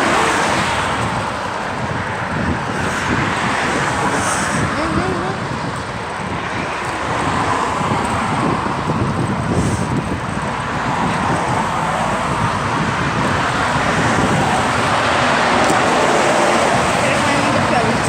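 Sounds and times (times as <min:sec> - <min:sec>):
outdoor rushing and rumbling noise: 0:00.0 - 0:18.0.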